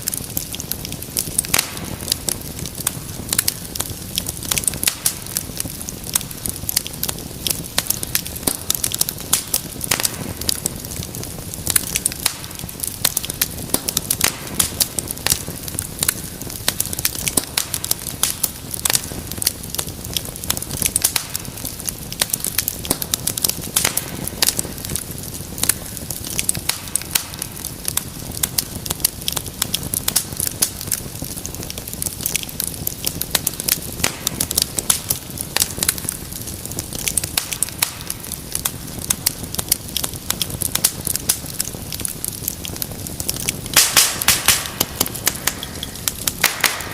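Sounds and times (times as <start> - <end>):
low rumble of flames: 0.0 - 46.9
wood fire crackling and popping: 0.0 - 46.9.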